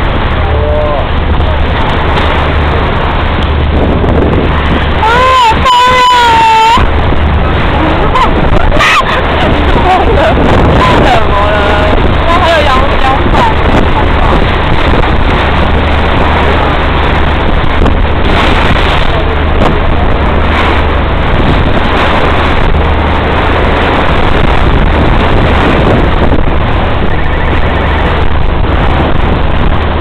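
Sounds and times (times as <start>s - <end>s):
ferry engine droning: 0.0s - 30.0s
wind noise on microphone: 0.0s - 30.0s.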